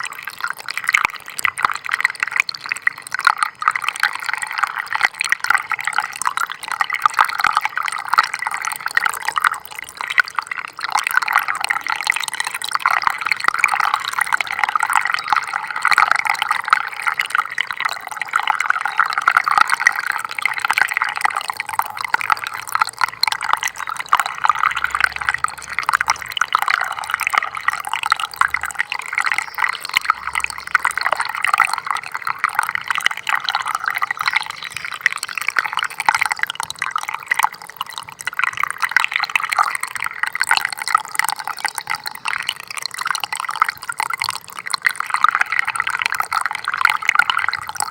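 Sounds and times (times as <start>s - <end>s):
stream trickling over stones: 0.0s - 47.9s.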